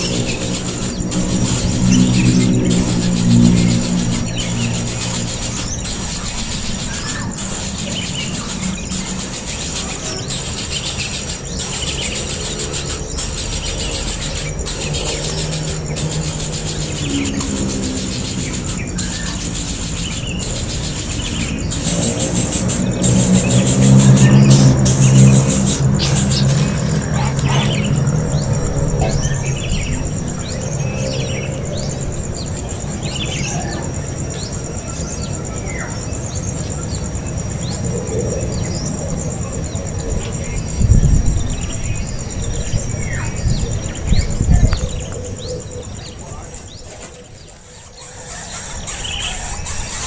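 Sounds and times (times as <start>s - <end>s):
birds chirping: 0.0s - 50.0s
low rumbling noise: 0.0s - 50.0s
pulsing insect trill: 0.0s - 50.0s.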